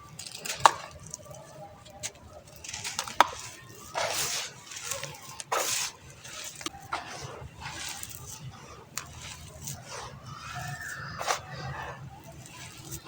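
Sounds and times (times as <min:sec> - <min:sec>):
gritty crumbling in water: 0:00.0 - 0:13.0
sand-cement shapes cracking: 0:00.0 - 0:13.0.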